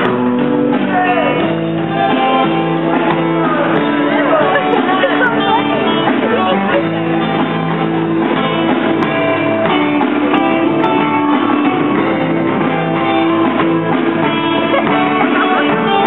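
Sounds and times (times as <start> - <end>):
drum kit: 0.0 - 16.0
electric guitar chords: 0.0 - 16.0.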